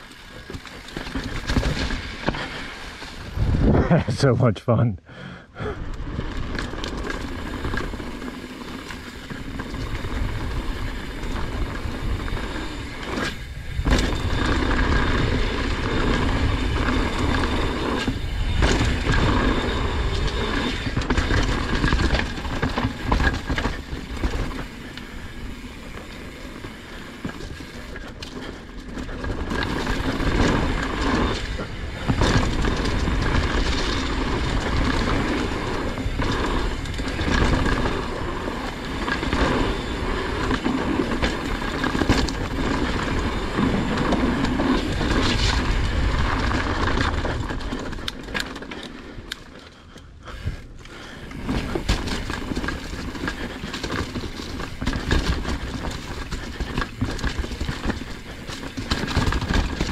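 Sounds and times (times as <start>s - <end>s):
bike rattling over bumps: 0.0s - 4.0s, 5.6s - 59.9s
bike tyres rumbling over dirt: 0.0s - 4.2s, 5.3s - 59.9s.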